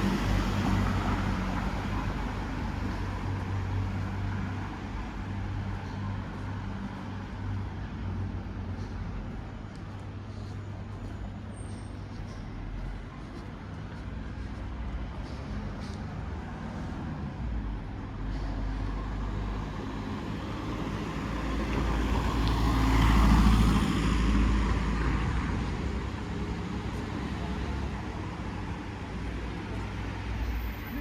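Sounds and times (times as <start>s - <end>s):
background traffic: 0.0s - 31.0s.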